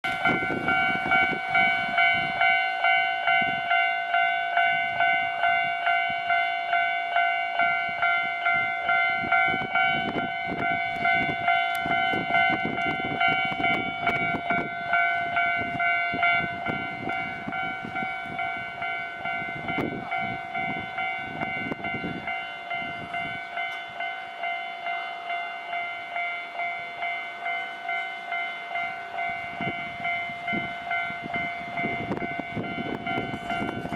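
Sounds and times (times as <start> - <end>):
train rumbling past: 0.0 - 33.9.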